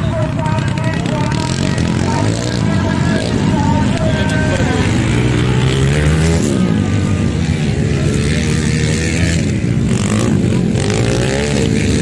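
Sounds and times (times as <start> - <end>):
dirt bike engines revving: 0.0 - 12.0
steady noise: 0.0 - 12.0.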